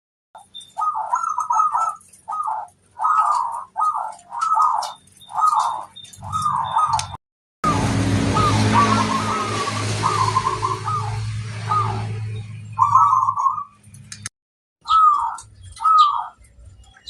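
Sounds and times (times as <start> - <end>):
dove cooing: 0.7 - 12.2, 12.8 - 13.8, 14.9 - 16.4.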